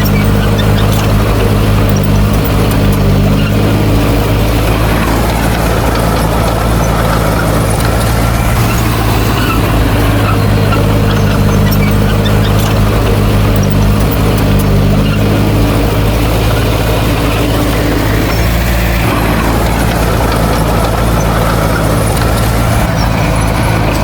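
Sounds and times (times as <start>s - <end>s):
faint clicks and rattles: 0.0s - 24.0s
heavy diesel engine running: 0.0s - 24.0s.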